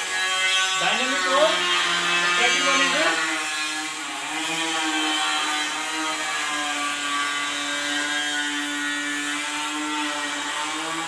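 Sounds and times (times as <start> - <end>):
small motor whining: 0.0 - 11.0.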